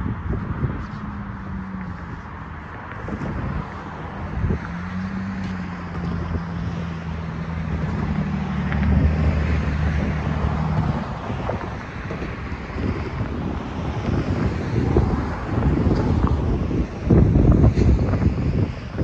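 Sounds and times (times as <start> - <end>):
passing cars: 0.0 - 19.0
wind buffeting microphone: 0.0 - 19.0.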